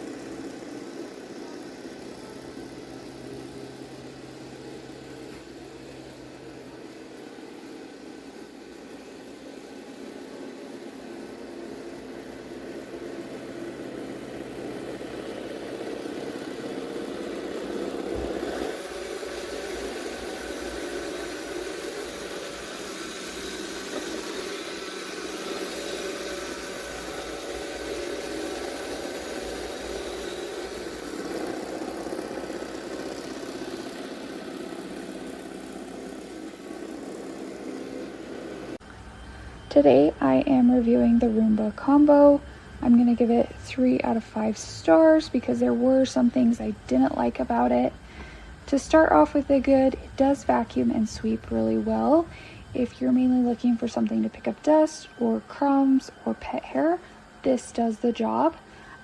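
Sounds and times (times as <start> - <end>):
robot vacuum whirring: 0.0 - 59.0.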